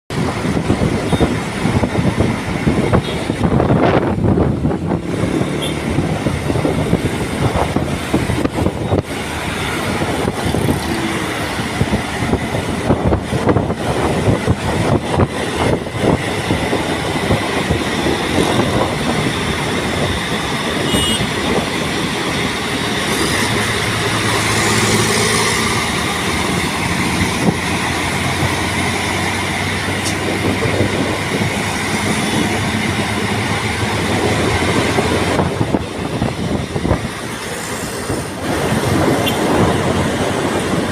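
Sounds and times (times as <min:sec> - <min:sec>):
bus rattling and clattering: 0:00.1 - 0:40.9
low engine hum: 0:00.1 - 0:40.9.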